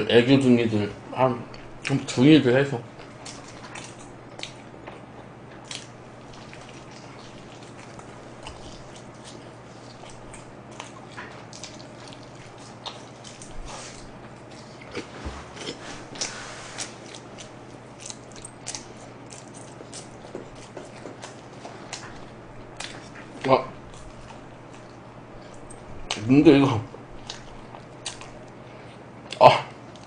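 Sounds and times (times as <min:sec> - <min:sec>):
biting and chewing pizza: 0:01.4 - 0:30.0.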